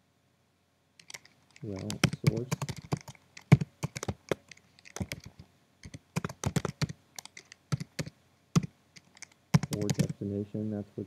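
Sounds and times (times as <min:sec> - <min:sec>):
typing on computer keyboard: 0:01.0 - 0:10.2.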